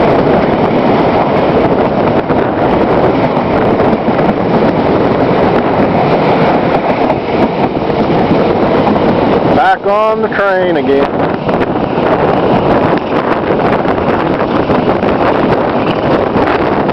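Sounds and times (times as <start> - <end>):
train wheels rumbling and rattling: 0.0 - 16.9.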